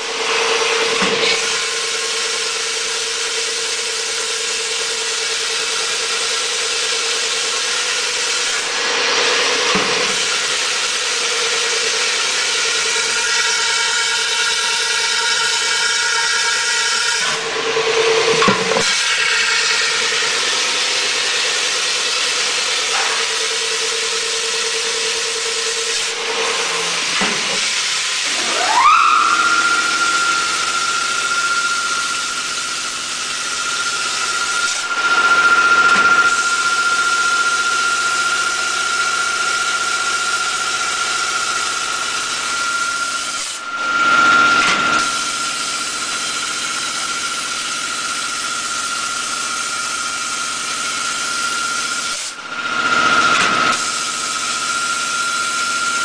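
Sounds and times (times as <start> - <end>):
machine whine: 0.0 - 56.0.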